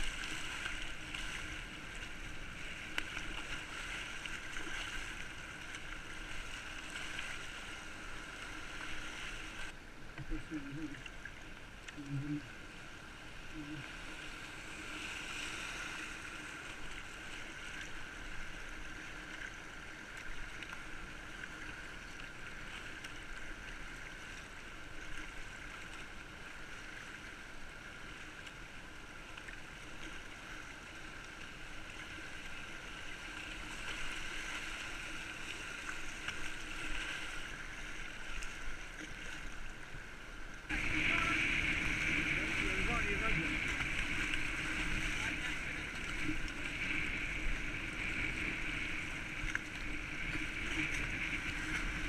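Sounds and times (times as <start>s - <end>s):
river water rushing and splashing: 0.0s - 52.0s.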